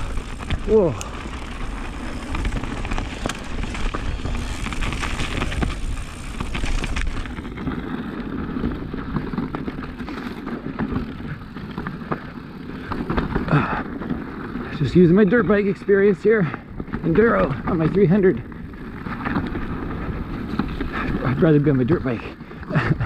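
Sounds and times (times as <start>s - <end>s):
bike knocking and rattling on rocks: 0.0s - 23.0s
bike tyres rumbling: 0.0s - 23.0s.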